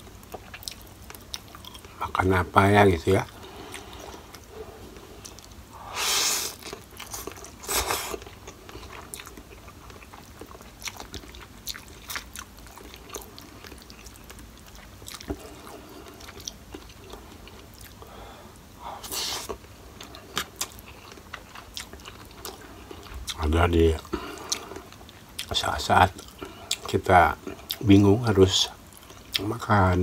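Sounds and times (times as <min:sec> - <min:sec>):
wet chewing: 0:00.1 - 0:02.0, 0:03.2 - 0:05.6, 0:06.4 - 0:18.1, 0:19.0 - 0:28.0.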